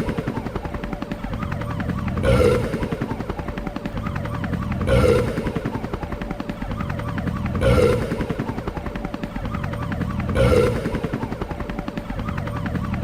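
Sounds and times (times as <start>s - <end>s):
rapid rattling pulse: 0.0s - 13.0s.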